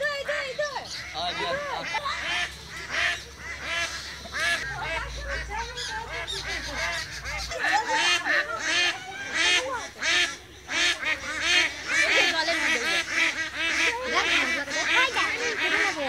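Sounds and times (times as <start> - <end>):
ducks quacking and honking: 0.0 - 16.0.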